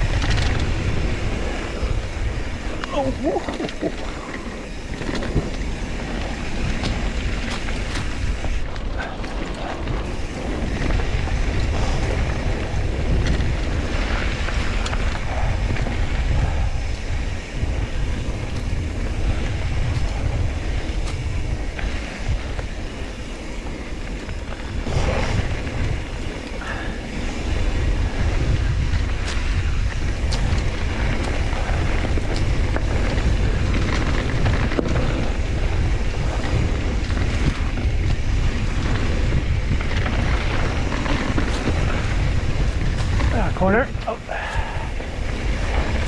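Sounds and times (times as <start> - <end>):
bike clicks and rattles: 0.0 - 46.0
bike tyres rolling over dirt: 0.0 - 46.0
wind buffeting microphone: 0.0 - 46.0.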